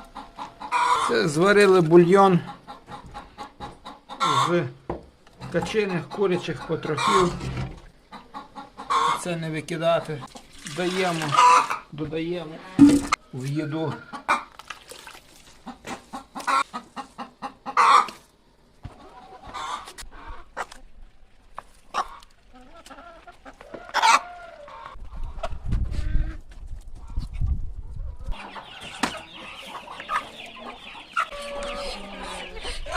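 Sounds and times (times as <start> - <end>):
poultry clucking: 0.0 - 14.5, 15.6 - 26.4, 27.0 - 32.9.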